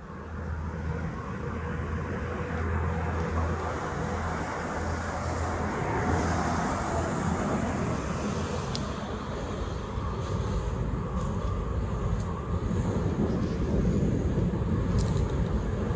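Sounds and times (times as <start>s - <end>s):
traffic rumble: 0.0s - 15.9s.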